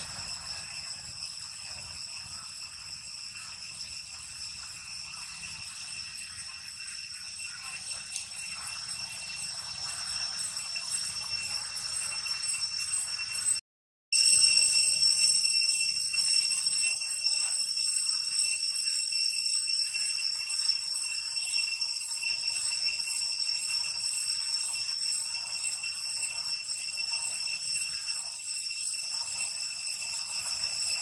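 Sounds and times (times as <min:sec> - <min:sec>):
shrill insect chorus: 0:00.0 - 0:13.6, 0:14.2 - 0:31.0.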